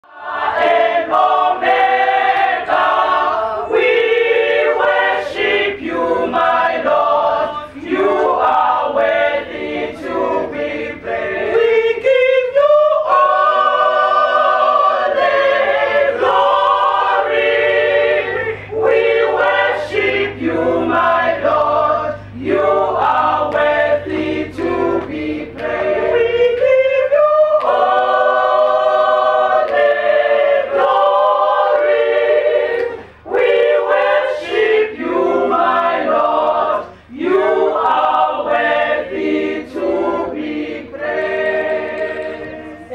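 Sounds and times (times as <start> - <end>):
women's choir singing a cappella: 0.0 - 42.9.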